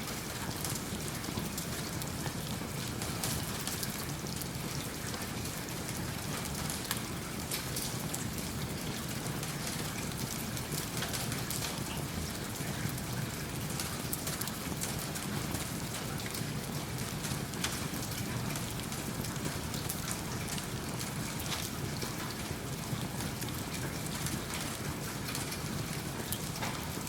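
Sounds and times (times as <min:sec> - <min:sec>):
rain falling: 0:00.0 - 0:27.0
wood fire crackling: 0:00.1 - 0:27.0.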